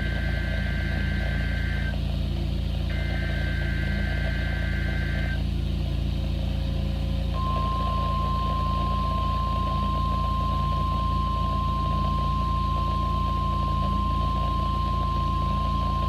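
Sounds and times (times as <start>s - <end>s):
digital data tone bursts: 0.0s - 2.0s, 2.9s - 5.4s, 7.4s - 16.0s
low receiver hum: 0.0s - 16.0s.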